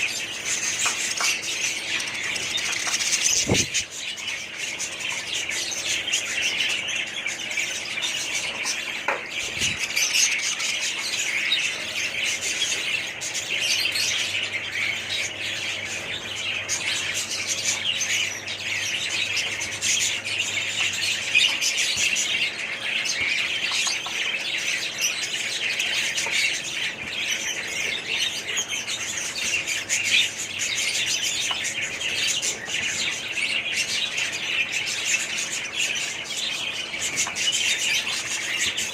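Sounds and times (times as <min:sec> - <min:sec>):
parrots chattering and squawking: 0:00.0 - 0:38.9.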